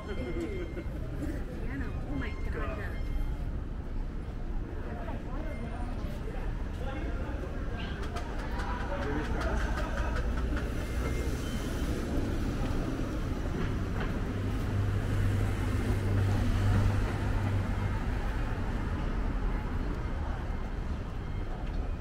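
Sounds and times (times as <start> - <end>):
street noise rumble: 0.0 - 22.0.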